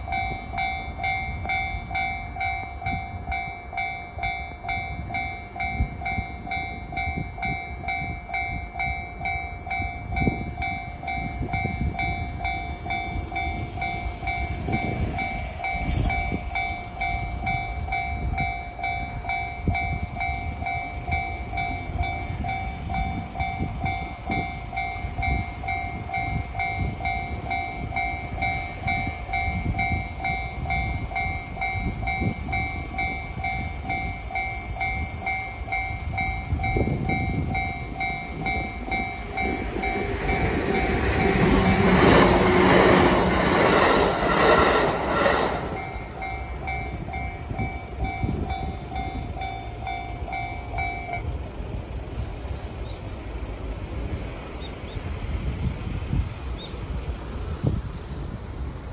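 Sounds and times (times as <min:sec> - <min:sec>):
electronic crossing bell ringing: 0:00.0 - 0:52.0
train rumble: 0:00.0 - 0:58.9.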